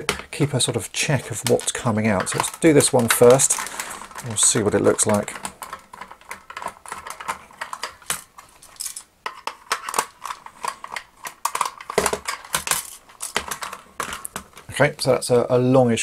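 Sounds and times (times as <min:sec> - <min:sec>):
screwdriver clicking and scraping plastic: 0:01.2 - 0:14.7.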